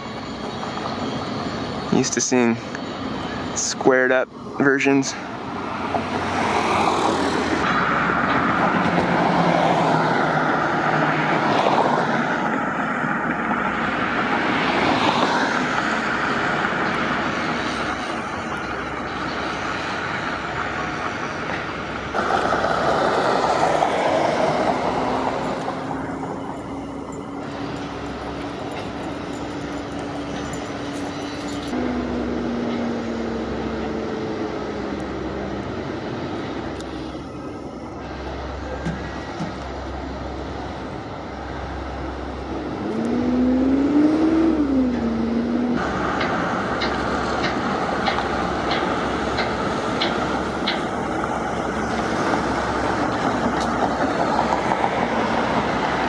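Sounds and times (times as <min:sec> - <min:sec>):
rushing engine and wind noise: 0:00.0 - 0:56.0.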